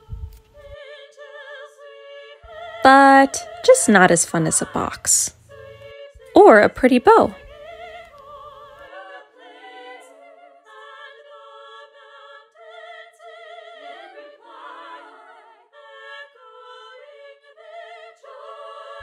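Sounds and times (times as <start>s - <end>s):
operatic choral singing: 0.0s - 19.0s.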